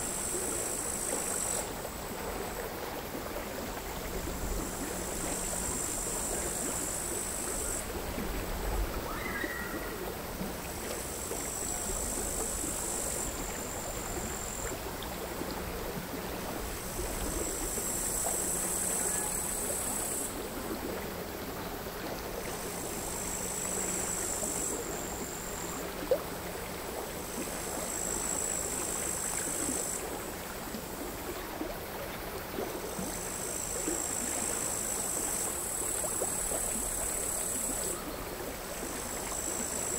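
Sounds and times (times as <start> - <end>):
crickets buzzing: 0.0 - 31.6, 32.8 - 39.9
small waves lapping: 0.0 - 39.9.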